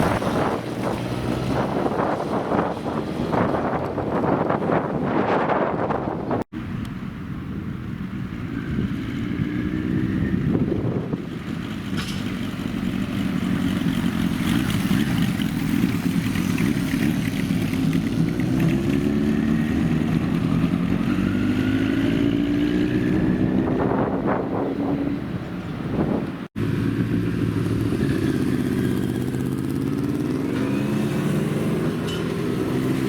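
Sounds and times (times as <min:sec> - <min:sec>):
old motorcycle engines revving: 0:00.0 - 0:05.4, 0:07.9 - 0:33.0.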